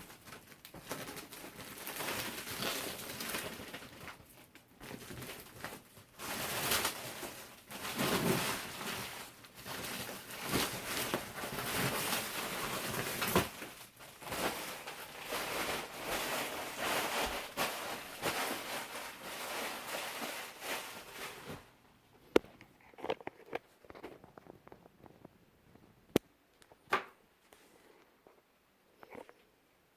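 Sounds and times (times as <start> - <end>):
packaging rustling and crinkling: 0.0 - 26.0.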